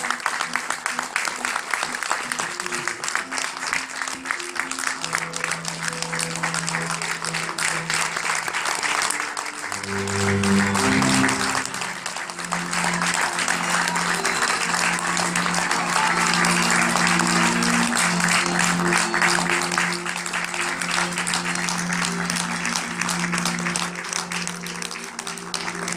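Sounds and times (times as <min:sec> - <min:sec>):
audience applauding: 0:00.0 - 0:25.9
music with held low notes: 0:00.0 - 0:25.9.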